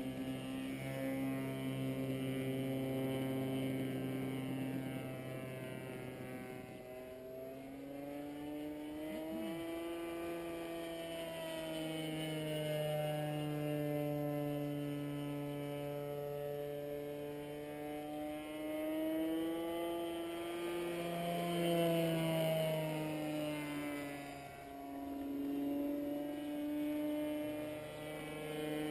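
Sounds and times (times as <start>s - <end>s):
model airplane engine drone: 0.0s - 28.9s.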